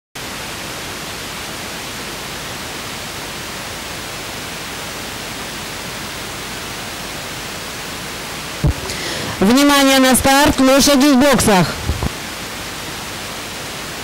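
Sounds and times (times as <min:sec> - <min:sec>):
recording noise hiss: 0:00.2 - 0:14.0.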